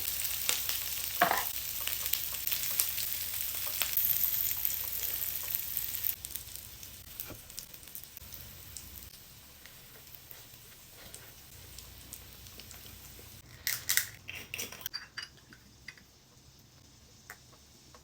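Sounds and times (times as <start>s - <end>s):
food sizzling on a grill: 0.0s - 14.9s, 15.7s - 18.0s.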